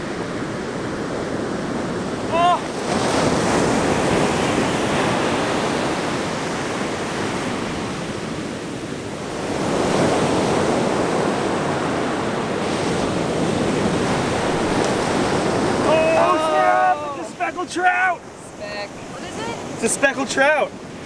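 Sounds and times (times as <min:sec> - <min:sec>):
ocean waves breaking on beach: 0:00.0 - 0:21.0
wind buffeting microphone: 0:00.0 - 0:21.0.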